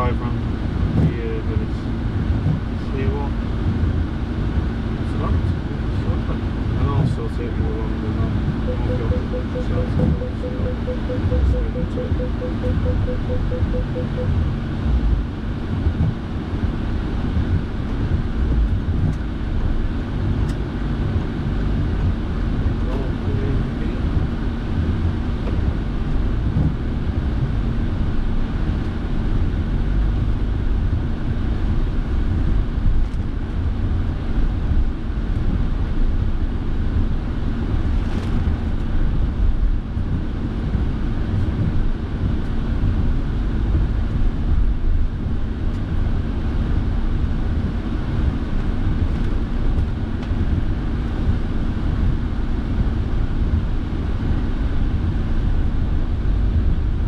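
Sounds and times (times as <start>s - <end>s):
car engine and road noise: 0.0s - 57.0s
heater fan blowing: 0.0s - 57.0s.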